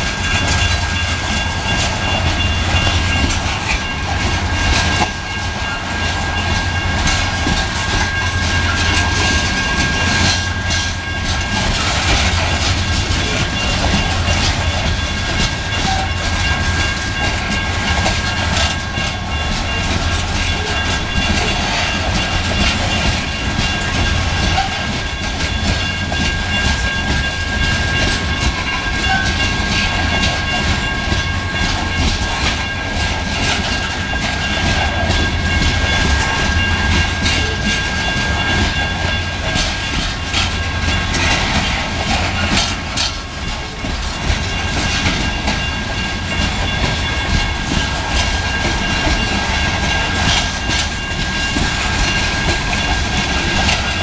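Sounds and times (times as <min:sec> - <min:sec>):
steel wheels rumbling on rails: 0:00.0 - 0:54.0.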